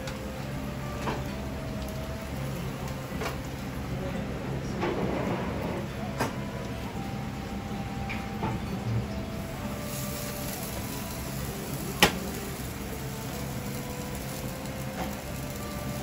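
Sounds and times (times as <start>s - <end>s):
kitchen background hum: 0.0s - 16.0s.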